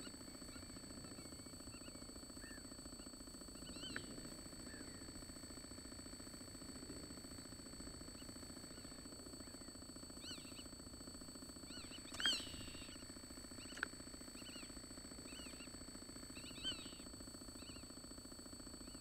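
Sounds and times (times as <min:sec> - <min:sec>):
small birds chirping: 0:00.0 - 0:10.8, 0:11.5 - 0:18.0, 0:18.7 - 0:19.0
thin high whines: 0:00.0 - 0:18.0
steady low buzz: 0:00.0 - 0:19.0.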